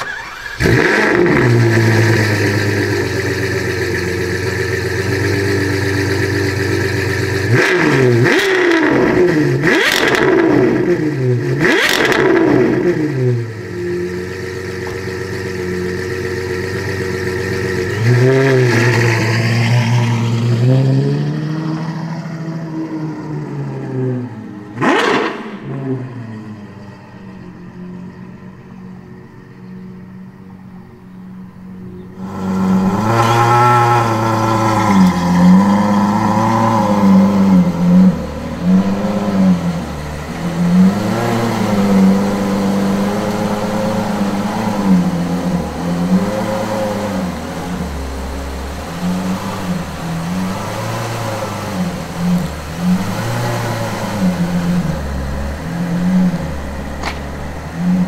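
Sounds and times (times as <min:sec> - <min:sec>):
sports car engine revving: 0:00.0 - 0:58.0.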